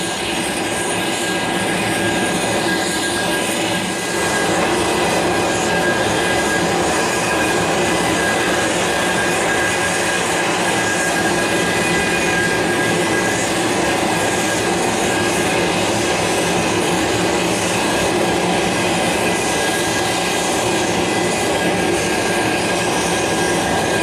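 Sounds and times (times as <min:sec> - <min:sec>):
aircraft turbine engines running: 0:00.0 - 0:24.0.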